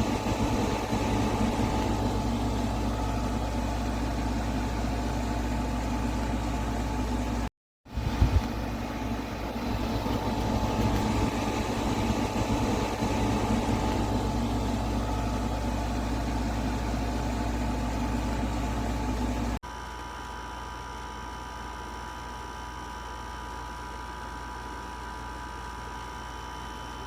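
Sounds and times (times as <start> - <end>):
air conditioner humming: 0.0 - 24.6.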